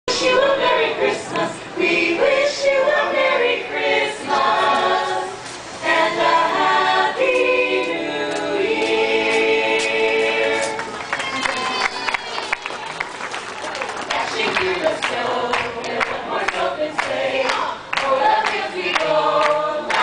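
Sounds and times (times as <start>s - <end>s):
group singing a cappella: 0.1s - 11.0s, 14.1s - 20.0s.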